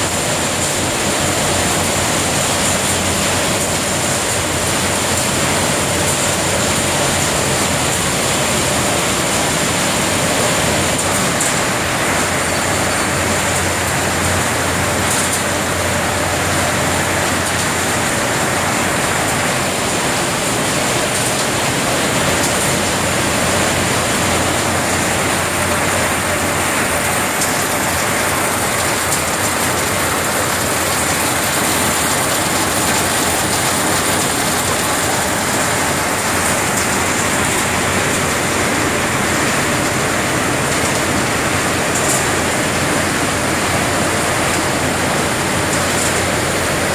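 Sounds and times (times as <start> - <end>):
machinery rushing clatter: 0.0 - 46.9.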